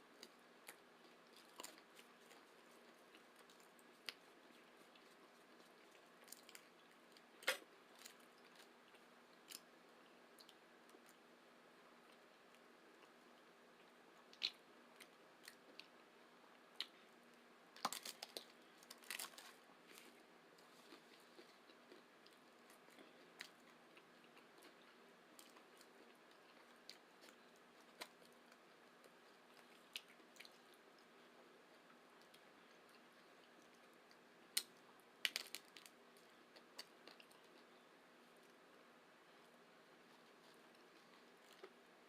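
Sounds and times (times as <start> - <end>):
tacos being bitten and chewed: 0.1 - 11.2, 11.9 - 37.8, 39.8 - 42.0.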